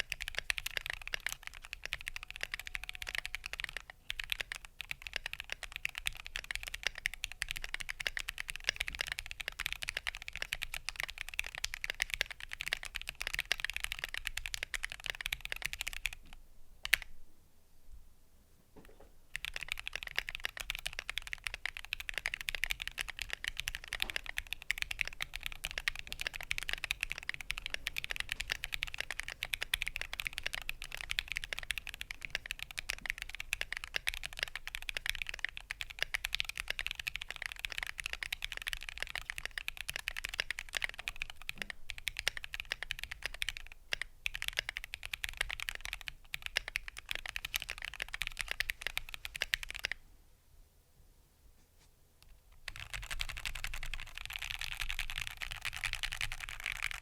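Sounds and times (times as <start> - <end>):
fast mechanical keyboard typing: 0.0 - 17.1, 19.3 - 50.0, 52.6 - 57.0.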